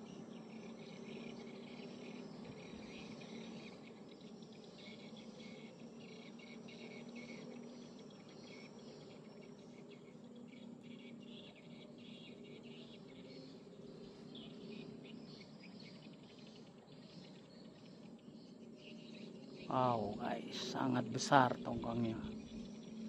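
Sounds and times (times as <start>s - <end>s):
faint low hum: 0.0s - 23.0s
insects chirping chorus: 0.0s - 23.0s.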